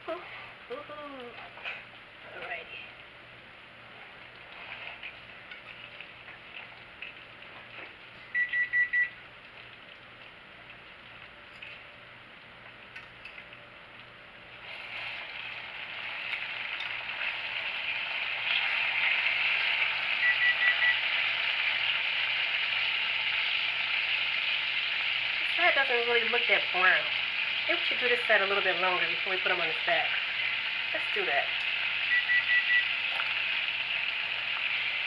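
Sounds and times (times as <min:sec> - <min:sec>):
chicken drippings sizzling in a pan: 0:00.1 - 0:35.0.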